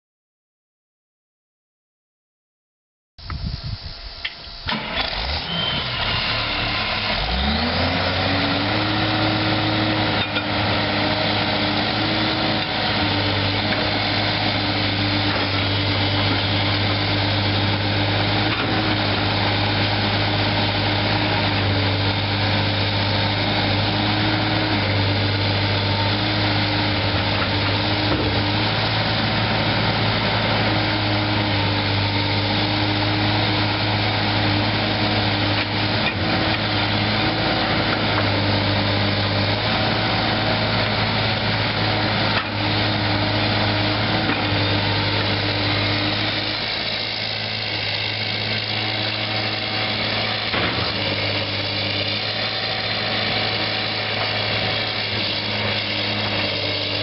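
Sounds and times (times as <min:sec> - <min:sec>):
diesel engine running: 0:03.6 - 0:57.0.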